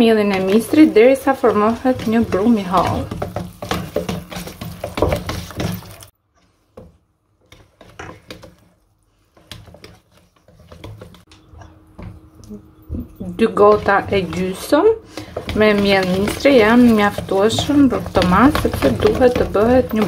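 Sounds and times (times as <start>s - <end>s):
whisk scraping metal bowl: 0.0s - 11.3s, 13.2s - 20.0s.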